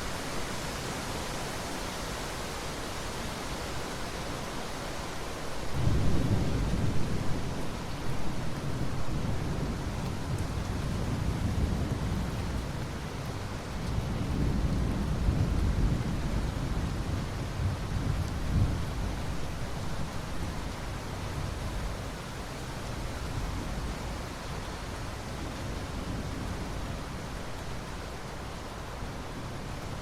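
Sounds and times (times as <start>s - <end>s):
steady rain hissing: 0.0s - 30.0s.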